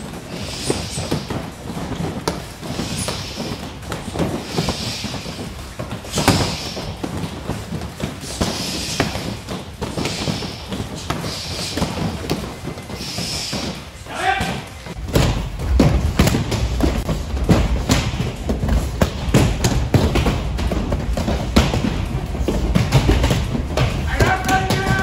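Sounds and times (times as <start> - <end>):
punches thumping on pads: 0.7 - 25.0.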